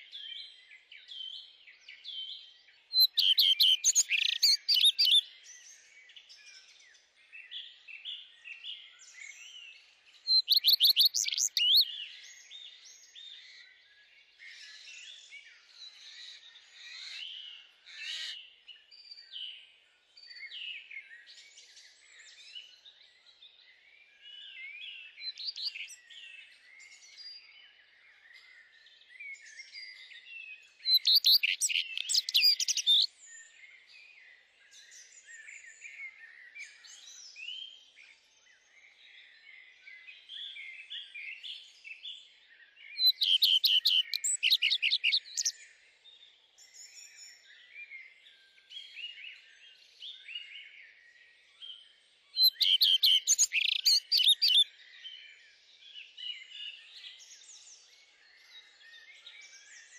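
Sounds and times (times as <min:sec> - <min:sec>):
bird trilling song: 0:00.0 - 0:13.7, 0:14.3 - 0:22.9, 0:24.3 - 0:27.5, 0:28.1 - 0:33.8, 0:34.7 - 0:45.8, 0:46.6 - 0:59.9
songbirds chirping: 0:00.0 - 0:59.9.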